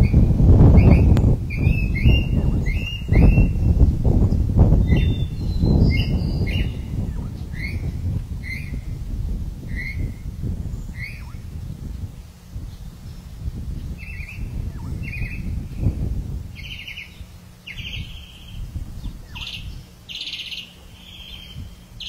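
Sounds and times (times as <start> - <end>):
birds chirping: 0.0 - 22.0
low rumbling noise: 0.0 - 22.0.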